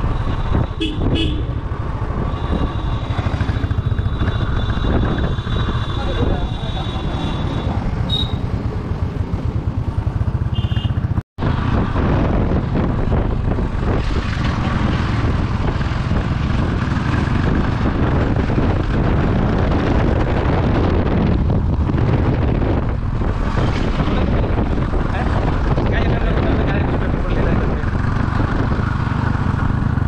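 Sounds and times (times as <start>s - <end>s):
wind buffeting microphone: 0.0s - 6.8s, 11.4s - 30.0s
vehicle engine rumbling: 0.0s - 30.0s.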